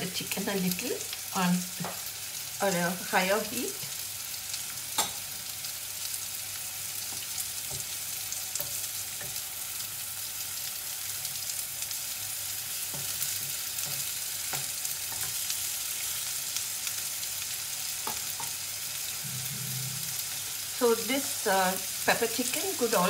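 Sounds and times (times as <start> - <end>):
chicken and onions sizzling in pan: 0.0 - 23.0.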